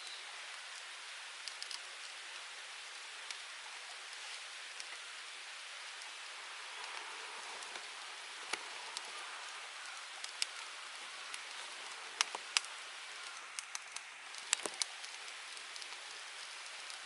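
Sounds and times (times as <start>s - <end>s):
wood fire crackling and popping: 0.3s - 17.0s.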